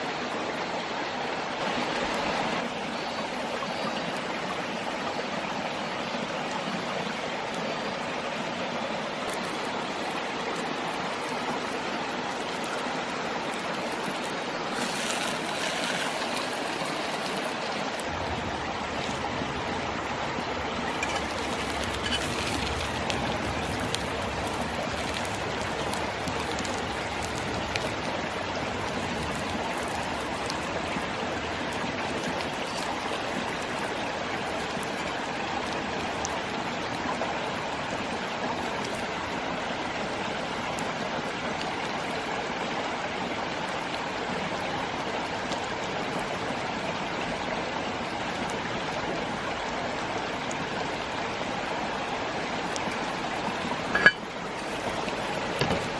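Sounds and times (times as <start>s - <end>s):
stream rushing and babbling: 0.0s - 55.9s.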